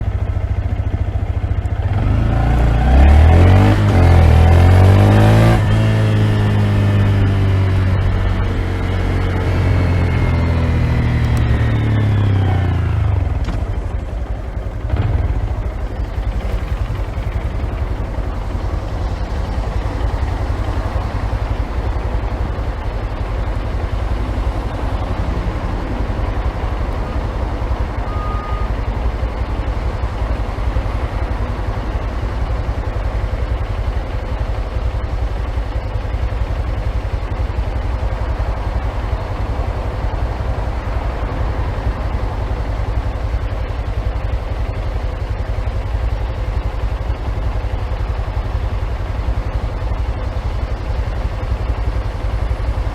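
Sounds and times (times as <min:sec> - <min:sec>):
muffled motorcycle engine idling: 0:00.0 - 0:52.9.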